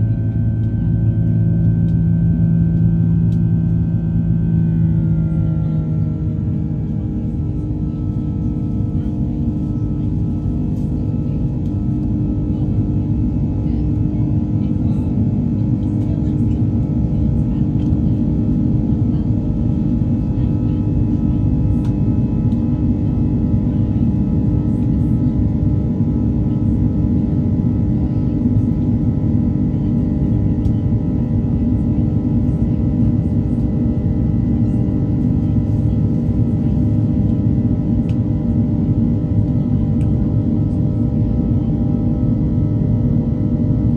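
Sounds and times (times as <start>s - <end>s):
jet engine drone in cabin: 0.0s - 43.9s.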